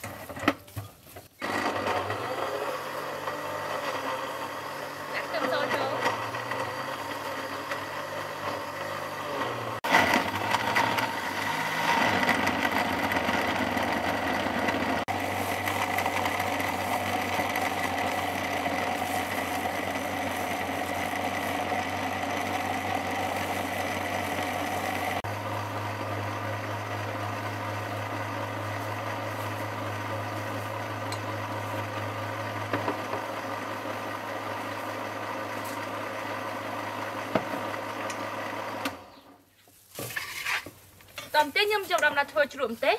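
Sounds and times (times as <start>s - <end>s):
electric blender whirring: 1.4s - 39.1s.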